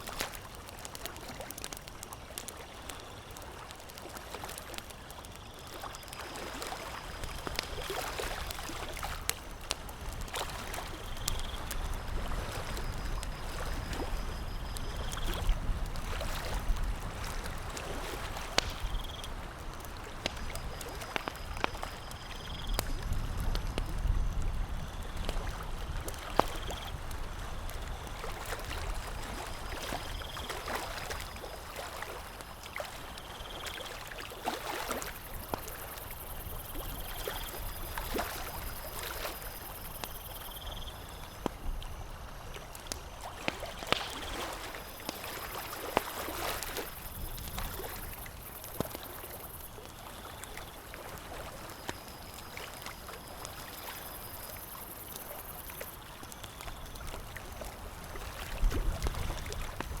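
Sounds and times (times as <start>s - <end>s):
campfire crackling and popping: 0.0s - 60.0s
lake water lapping and gurgling: 0.0s - 60.0s.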